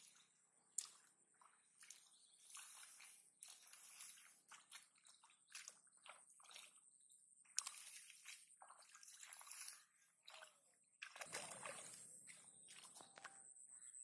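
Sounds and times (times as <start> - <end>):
splashing in muddy water: 0.0 - 13.5.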